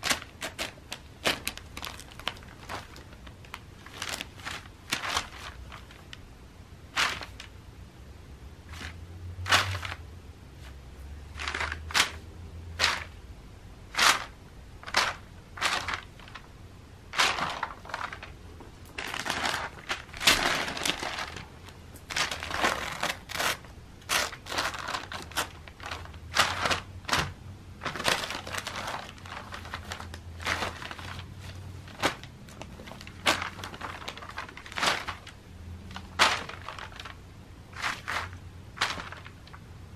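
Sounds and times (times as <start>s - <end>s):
paper crinkling and rustling: 0.0s - 6.2s, 7.0s - 7.5s, 11.3s - 12.2s, 14.0s - 16.5s, 17.1s - 39.6s.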